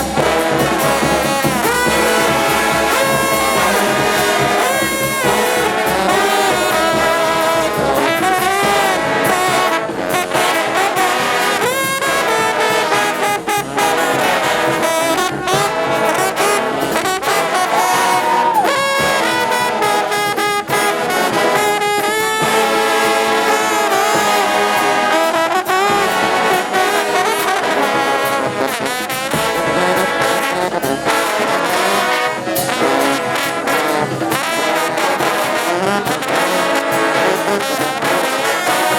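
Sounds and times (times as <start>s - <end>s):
brass band playing: 0.0s - 38.9s
steady percussion: 0.0s - 38.9s.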